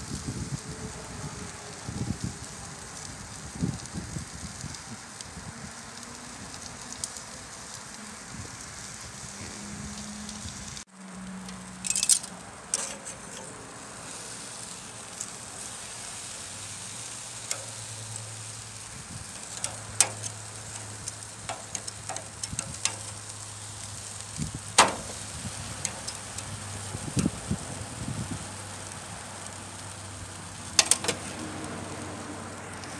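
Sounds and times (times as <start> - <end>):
fat crackling and popping: 0.0 - 32.9
steak sizzling on a grill: 0.0 - 32.9.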